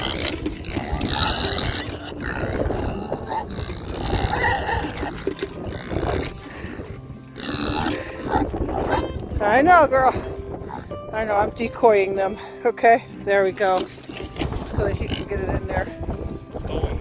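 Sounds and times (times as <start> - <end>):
pigs grunting and squealing: 0.0 - 9.4, 10.0 - 11.0, 12.2 - 15.6.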